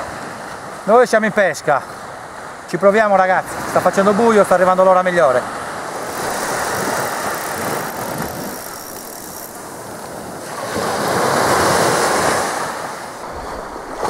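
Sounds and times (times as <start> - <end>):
waves washing up a beach: 0.0 - 14.0.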